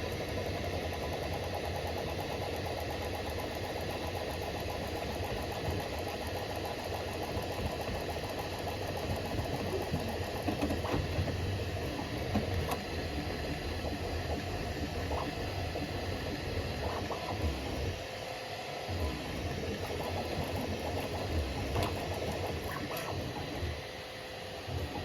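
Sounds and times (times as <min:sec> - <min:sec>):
cooling fans humming: 0:00.0 - 0:25.0.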